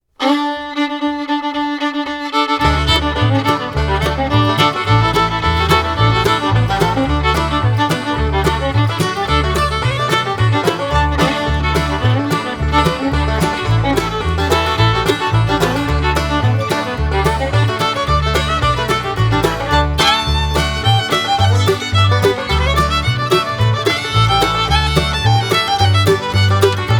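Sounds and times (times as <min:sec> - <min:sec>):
upbeat instrumental music: 0:02.4 - 0:26.9.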